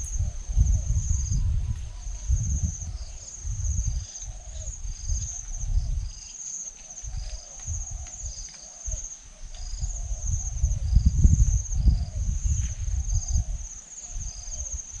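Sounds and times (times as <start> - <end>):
insects trilling: 0.0 - 15.0
wind rumble on microphone: 0.0 - 15.0.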